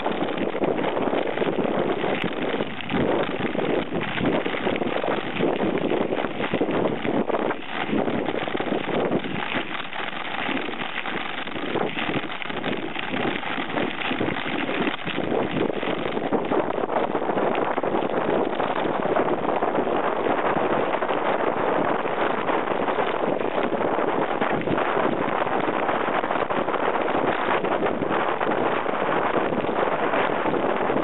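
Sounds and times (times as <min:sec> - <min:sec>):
bike tyres rolling on gravel: 0:00.0 - 0:31.0
wind buffeting microphone: 0:00.0 - 0:31.0.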